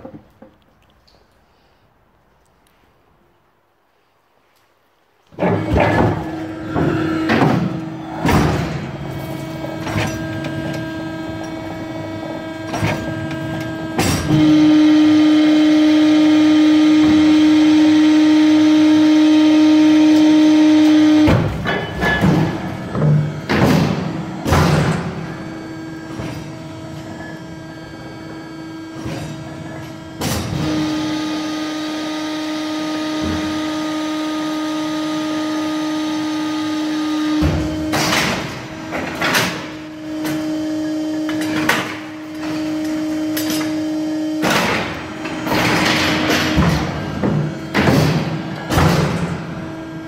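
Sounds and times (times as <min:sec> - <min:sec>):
baler machine hum: 0:05.2 - 0:50.0.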